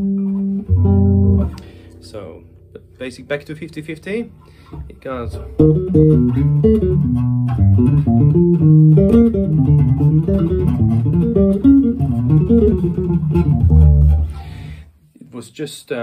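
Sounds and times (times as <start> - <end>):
fingered electric bass notes: 0.0 - 14.9.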